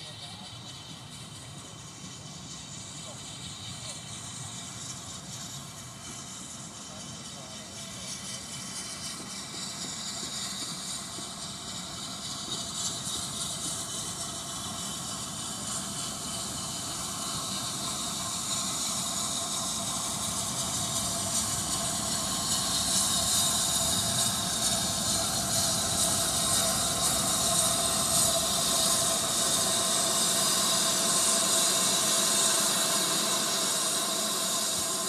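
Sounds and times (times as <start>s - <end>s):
steam hissing: 0.0s - 35.0s
train wheels rumbling on rail: 0.0s - 35.0s.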